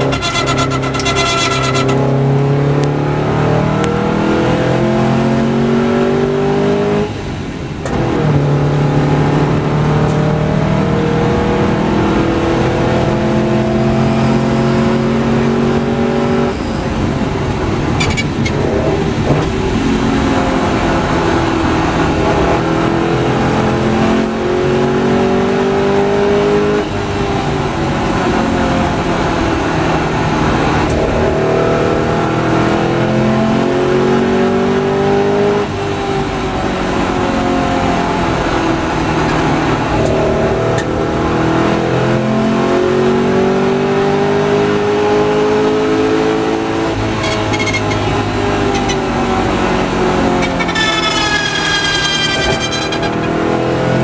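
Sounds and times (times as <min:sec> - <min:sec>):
sports car engine revving: 0:00.0 - 0:07.1, 0:07.9 - 0:54.0
wind and road noise: 0:00.0 - 0:54.0.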